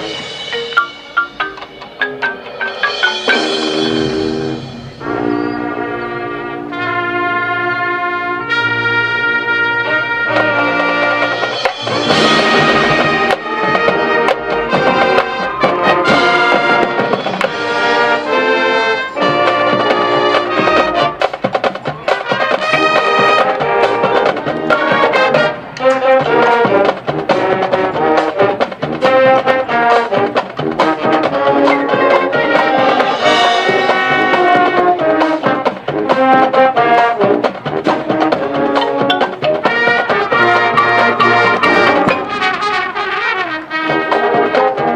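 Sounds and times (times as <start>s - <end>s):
brass chords: 0.0s - 44.9s
marching percussion: 0.0s - 44.9s.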